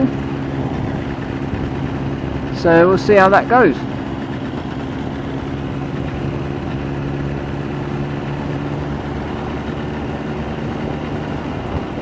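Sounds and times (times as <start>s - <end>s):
muffled motorcycle engine running: 0.0s - 12.0s
wind noise: 0.0s - 12.0s.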